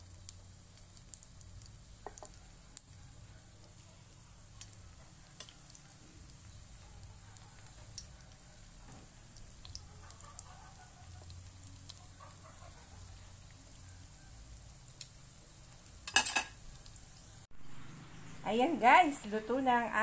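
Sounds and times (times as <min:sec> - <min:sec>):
faint crackles: 0:00.0 - 0:18.0
food sizzling in hot oil: 0:00.0 - 0:20.0.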